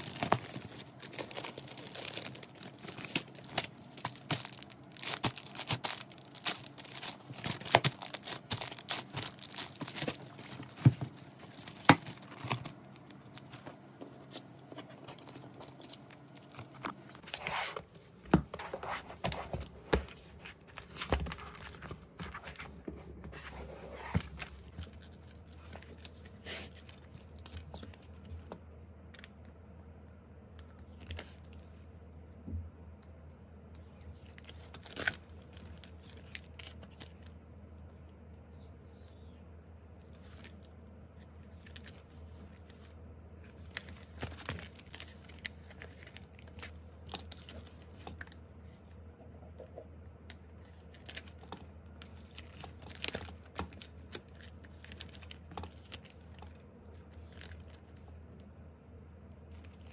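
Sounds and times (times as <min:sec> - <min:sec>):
plastic crinkling and rustling: 0:00.0 - 0:28.6, 0:34.0 - 0:37.4, 0:40.0 - 0:48.9, 0:50.5 - 0:58.1.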